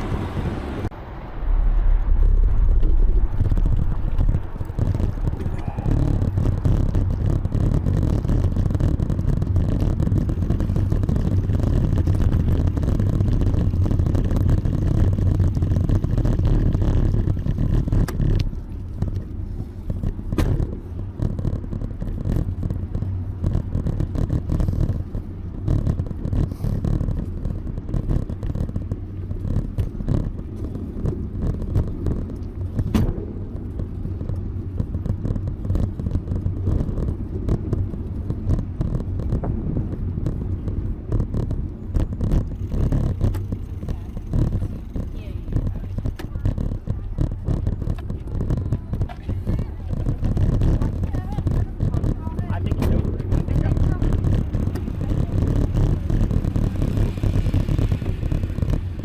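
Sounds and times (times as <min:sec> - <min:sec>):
bicycle tyres on pavement: 0:00.0 - 0:59.0
wind on microphone: 0:00.0 - 0:59.0
sharp clicks from bike: 0:02.8 - 0:59.0.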